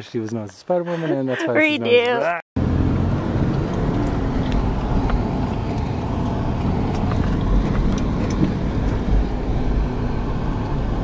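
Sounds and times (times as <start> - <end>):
truck engine and road rumble: 1.2 - 11.0.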